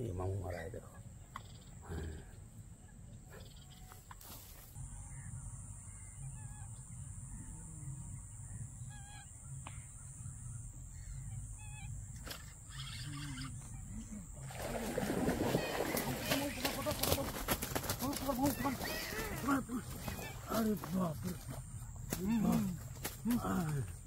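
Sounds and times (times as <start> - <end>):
faint bird calls: 0.2 - 24.0.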